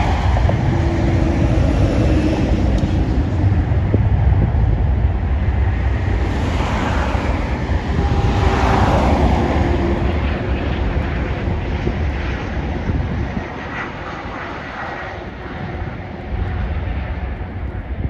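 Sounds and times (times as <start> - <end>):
jet airliner engine noise: 0.0 - 18.0
steady low rumble: 0.0 - 18.0
wind on microphone: 0.0 - 18.0.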